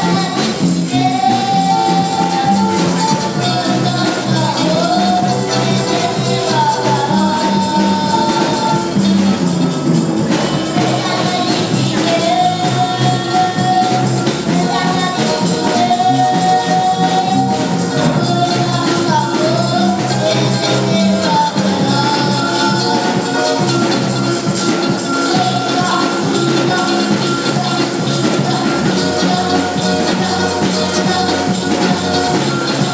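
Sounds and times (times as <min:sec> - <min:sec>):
tambourines playing in rhythm: 0:00.0 - 0:32.9
voices singing gospel: 0:00.0 - 0:32.9.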